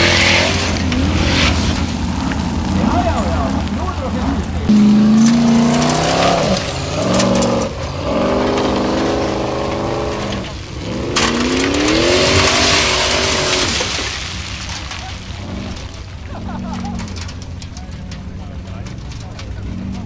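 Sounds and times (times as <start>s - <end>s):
buggy engine revving hard: 0.0s - 20.0s
gravel thrown by spinning tyres: 0.0s - 20.0s.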